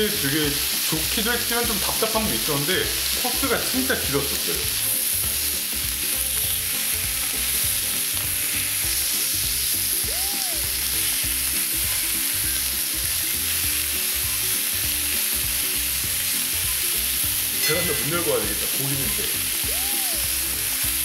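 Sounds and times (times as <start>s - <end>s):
beef sizzling on griddle pan: 0.0s - 21.0s.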